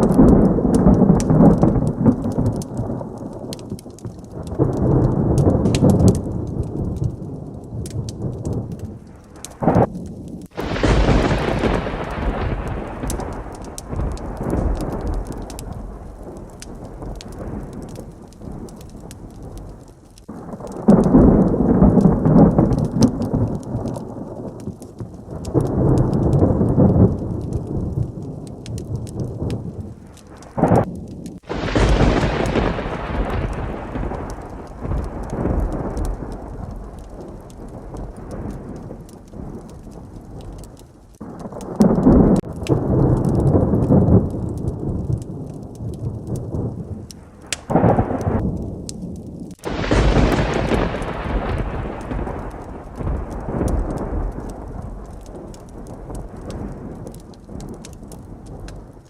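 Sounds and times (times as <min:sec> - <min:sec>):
heavy rain: 0:00.0 - 0:59.0
sharp thunderclap: 0:00.0 - 0:59.0
thunder rumbling: 0:00.0 - 0:59.0.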